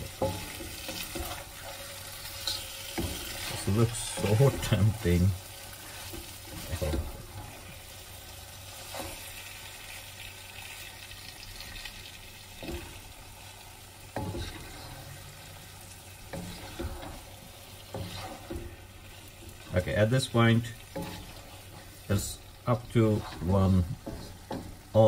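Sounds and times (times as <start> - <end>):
wooden spoon scraping a pan: 0.0 - 10.9, 12.6 - 25.0
meat sizzling in a wok: 0.0 - 25.0.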